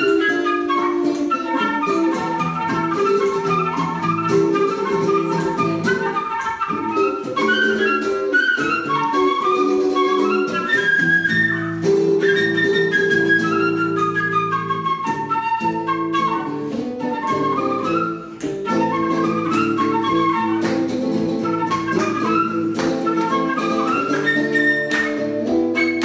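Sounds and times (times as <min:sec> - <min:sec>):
woodwind melody: 0:00.0 - 0:26.0.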